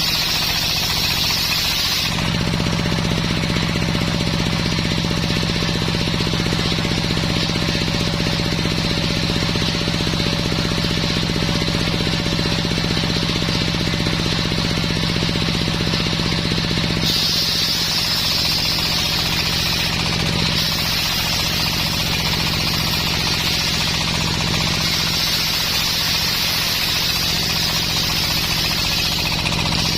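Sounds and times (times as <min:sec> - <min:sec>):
circular saw blade cutting wood: 0:00.0 - 0:14.8, 0:15.5 - 0:29.9
sawmill engine running: 0:00.0 - 0:29.9.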